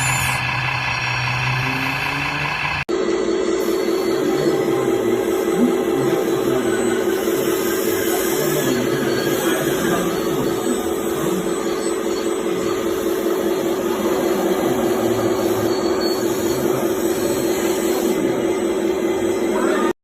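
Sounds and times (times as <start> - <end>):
electric motor and gears whirring: 0.0 - 19.9.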